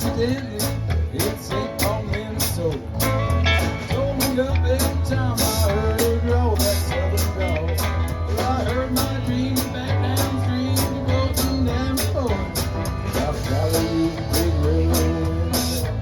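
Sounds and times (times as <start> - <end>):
band playing blues rock: 0.0 - 16.0
drums keeping steady beat: 0.0 - 16.0
heavy bass line: 0.0 - 16.0.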